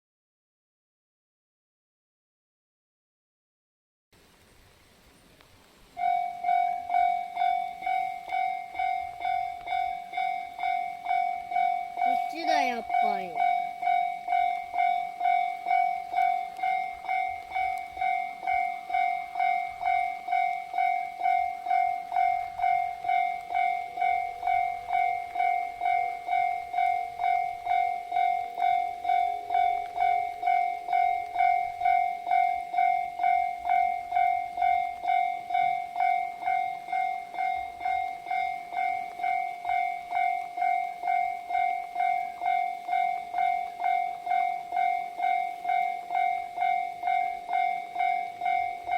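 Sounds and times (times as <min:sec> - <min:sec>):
level-crossing warning bell: 0:05.8 - 0:48.9.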